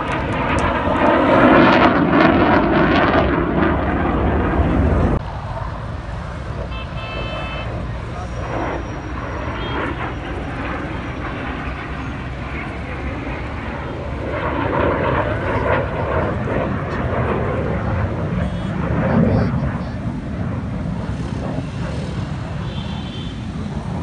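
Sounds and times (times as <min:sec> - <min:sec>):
fighter jet flying past: 0:00.0 - 0:24.0.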